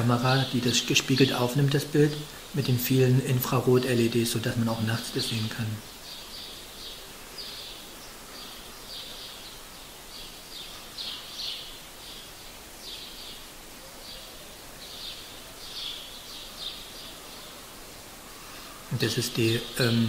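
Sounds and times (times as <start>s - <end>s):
birds chirping: 0.0s - 20.0s
faint outdoor background noise: 0.0s - 20.0s.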